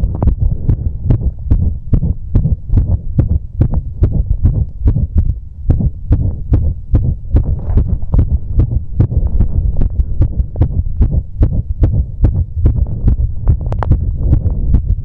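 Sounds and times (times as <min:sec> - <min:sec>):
low rumble: 0:00.0 - 0:15.0
quick heartbeat: 0:00.0 - 0:15.0.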